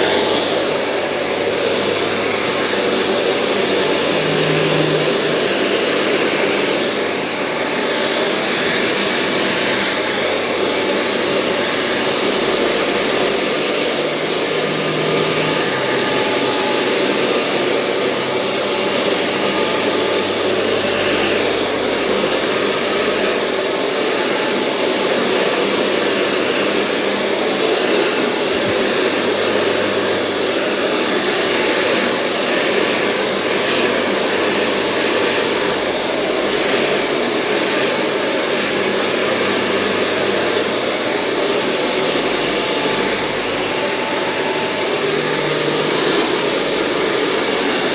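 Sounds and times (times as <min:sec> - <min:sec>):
hair dryer blowing air: 0:00.0 - 0:47.9.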